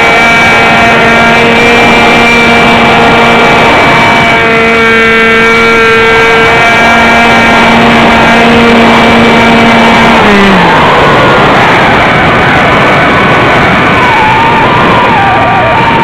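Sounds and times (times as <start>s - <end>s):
model aircraft motor drone: 0.0s - 13.1s
rough rush of noise: 0.0s - 16.0s.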